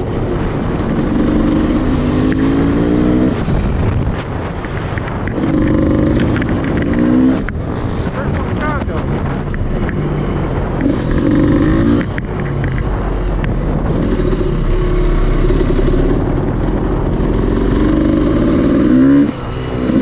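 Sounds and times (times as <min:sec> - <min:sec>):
dirt bike engine revving: 0:00.0 - 0:03.6, 0:05.3 - 0:20.0.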